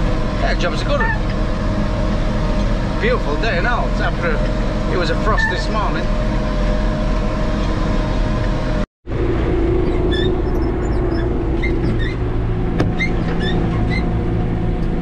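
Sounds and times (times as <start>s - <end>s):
tractor engine drone in cab: 0.0s - 15.0s.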